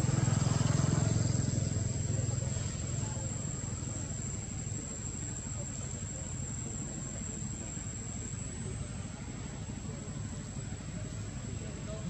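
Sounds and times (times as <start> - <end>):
insect drone: 0.0 - 12.0.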